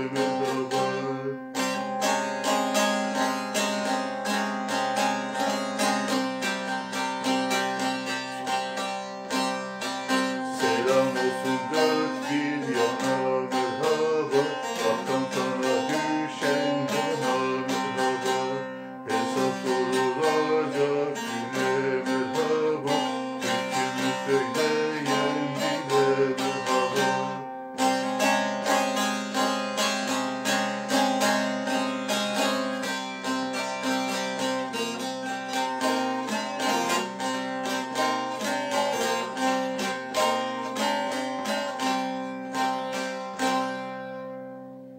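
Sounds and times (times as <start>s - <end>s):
plucked string instruments folk melody: 0.0s - 44.9s.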